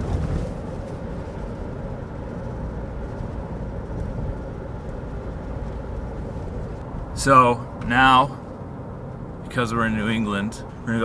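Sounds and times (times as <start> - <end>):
car road noise from inside: 0.0 - 11.0.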